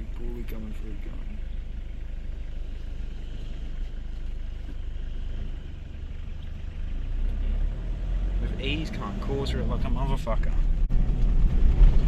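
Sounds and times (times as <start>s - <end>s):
road noise hiss: 0.0s - 10.1s
vehicle engine running: 0.0s - 12.0s.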